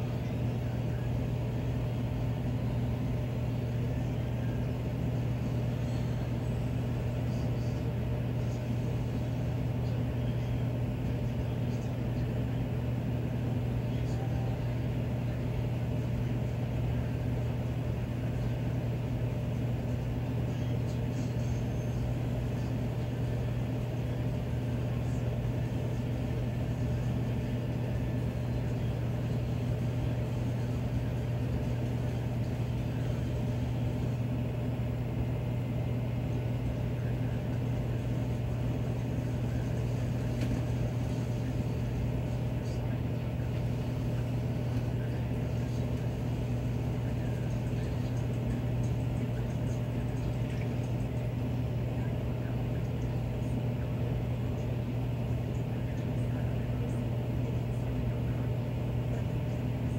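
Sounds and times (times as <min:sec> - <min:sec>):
furnace blower humming: 0:00.0 - 0:59.9.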